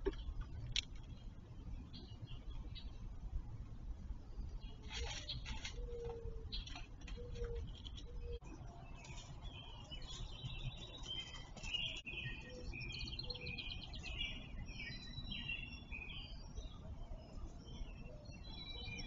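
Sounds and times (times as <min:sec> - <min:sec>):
songbirds chirping and twittering: 0:00.0 - 0:19.0.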